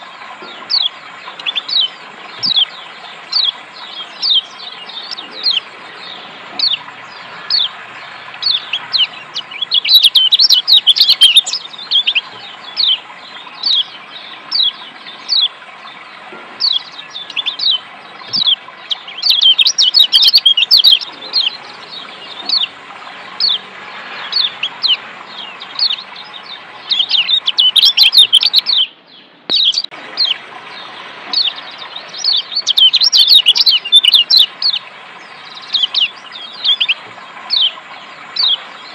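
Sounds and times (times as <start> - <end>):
bird chirping and chattering: 0.0 - 38.9
running water rushing: 0.0 - 38.9.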